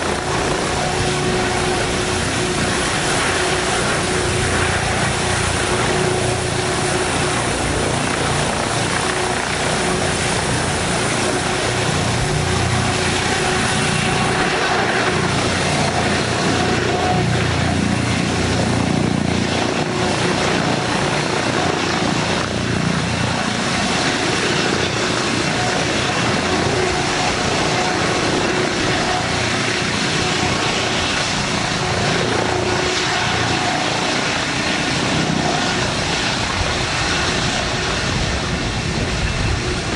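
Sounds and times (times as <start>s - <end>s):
helicopter rotor and turbine: 0.0s - 39.9s.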